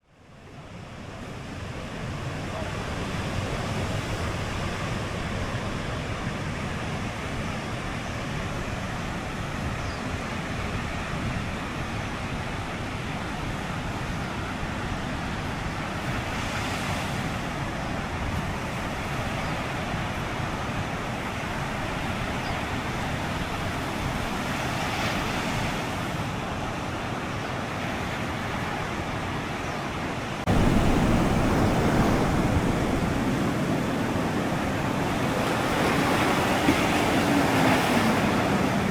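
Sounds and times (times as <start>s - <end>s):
waves washing onto beach: 0.0s - 38.9s.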